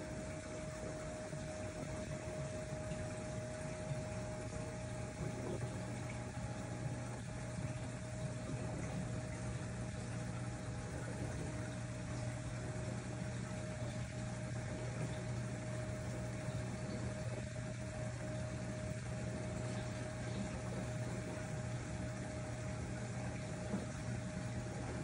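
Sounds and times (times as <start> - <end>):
aquarium pump humming: 0.0 - 25.0
circulating water rushing: 0.0 - 25.0
mid-pitched whine: 0.0 - 25.0.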